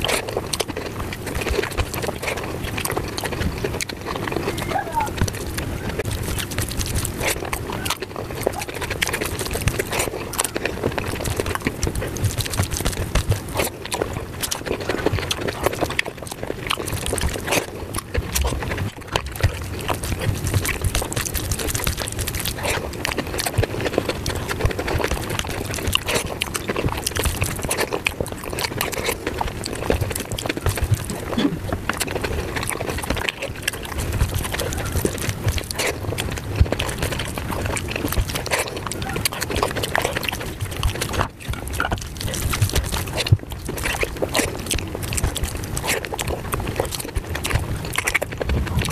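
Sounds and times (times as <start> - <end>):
squelching food by hand: 0.0 - 48.9
wet chewing and mouth smacking: 0.0 - 48.9.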